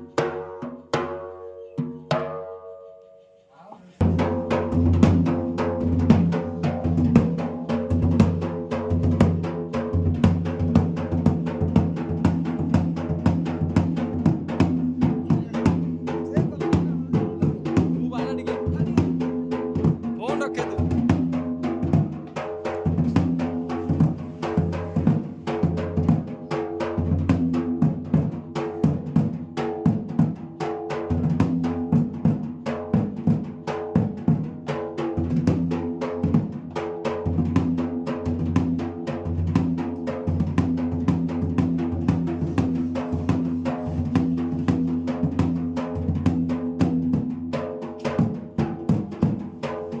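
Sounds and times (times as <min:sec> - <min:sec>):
drums in fast rhythm: 0:00.0 - 0:02.5, 0:03.5 - 0:50.0.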